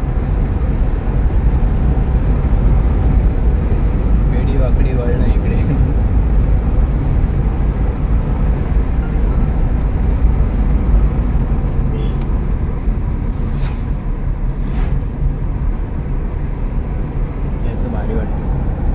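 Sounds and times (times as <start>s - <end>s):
car engine and road noise: 0.0s - 18.9s.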